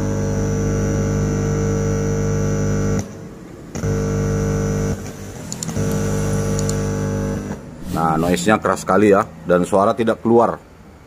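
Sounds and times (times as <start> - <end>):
mains hum and buzz: 0.0 - 11.0.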